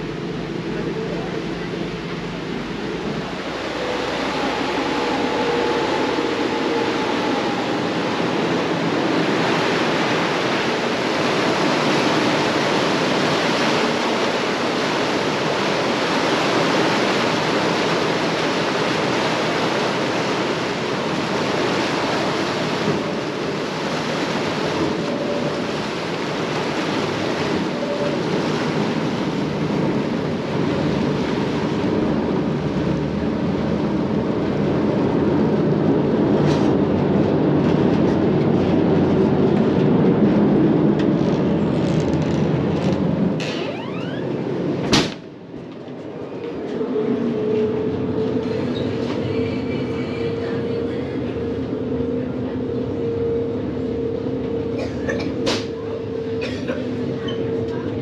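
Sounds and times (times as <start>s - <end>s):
boat engines running: 0.0s - 58.0s
boat wake rushing: 0.0s - 58.0s
wind: 0.0s - 58.0s.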